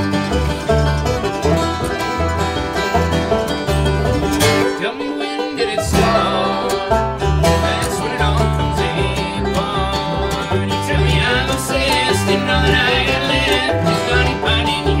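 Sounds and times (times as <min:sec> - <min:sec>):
banjo picking: 0:00.0 - 0:15.0
bluegrass string band: 0:00.0 - 0:15.0.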